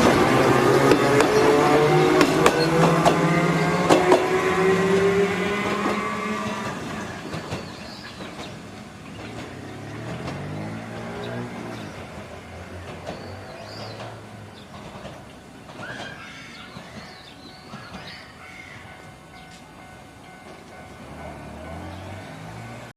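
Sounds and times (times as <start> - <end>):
tram motor hum: 0.0 - 22.9.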